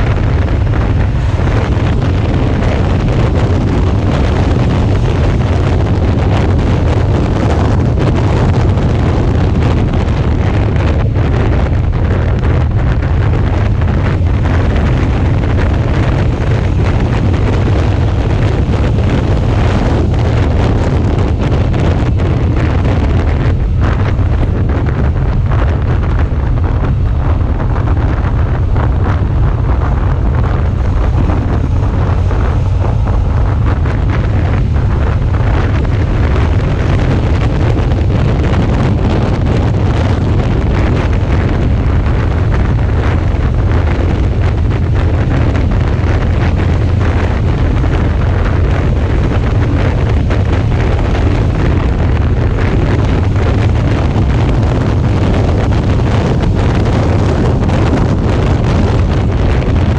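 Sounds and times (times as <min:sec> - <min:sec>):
motorcycle running: 0:00.0 - 0:59.9
road noise: 0:00.0 - 0:59.9
wind rumble on microphone: 0:00.0 - 0:59.9.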